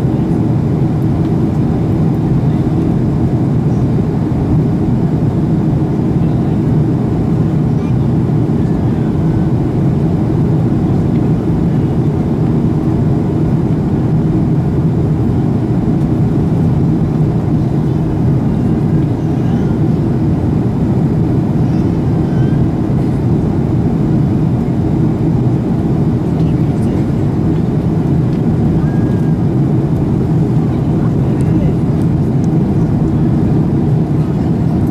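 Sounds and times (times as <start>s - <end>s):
jet engines in airplane cabin: 0.0s - 34.9s.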